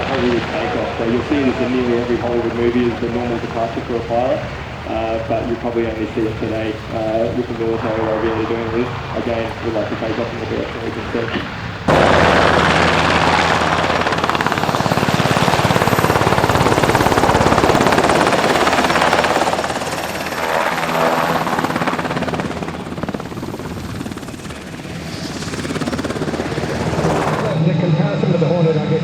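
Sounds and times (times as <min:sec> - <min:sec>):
helicopter rotor beating: 0:00.0 - 0:29.0
turbine whine: 0:00.0 - 0:29.0.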